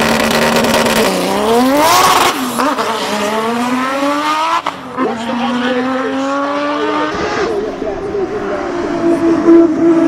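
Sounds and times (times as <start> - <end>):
race car engine revving: 0.0 - 10.0.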